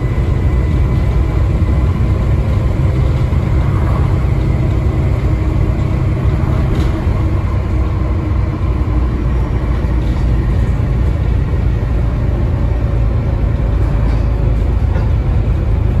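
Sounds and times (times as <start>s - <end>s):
bus engine drone: 0.0s - 16.0s
road and body noise: 0.0s - 16.0s.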